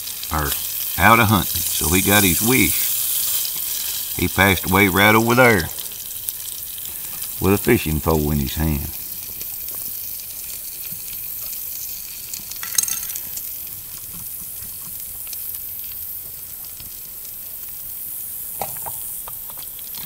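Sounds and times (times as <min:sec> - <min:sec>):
meat sizzling in a skillet: 0:00.0 - 0:20.0.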